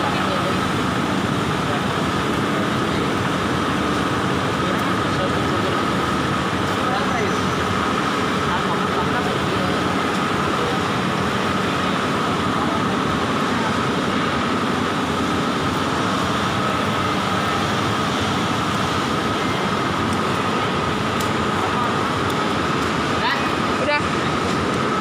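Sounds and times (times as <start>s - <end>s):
high-pitched machine whine: 0.0s - 25.0s
industrial machinery rushing din: 0.0s - 25.0s.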